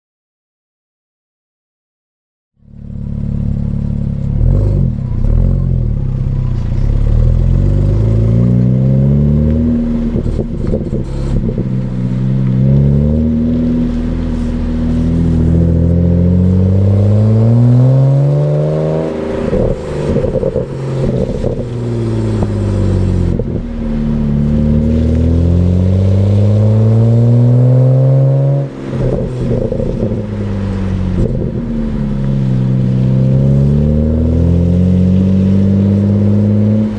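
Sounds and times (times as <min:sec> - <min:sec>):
car engine accelerating: 0:02.6 - 0:36.9.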